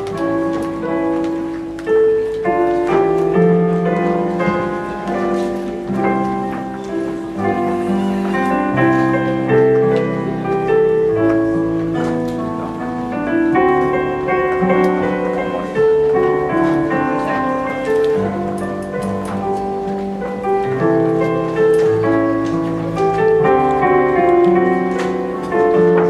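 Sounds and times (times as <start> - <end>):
slow piano-like keyboard melody: 0.0 - 26.0.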